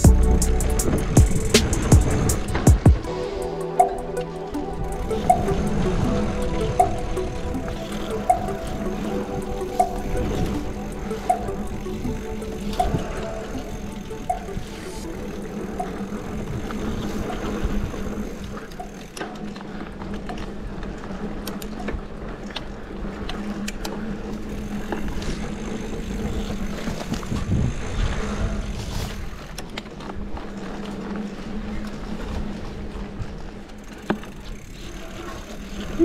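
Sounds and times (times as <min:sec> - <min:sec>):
bike rattling clicks: 0:00.0 - 0:03.1, 0:04.8 - 0:28.0, 0:28.6 - 0:36.0.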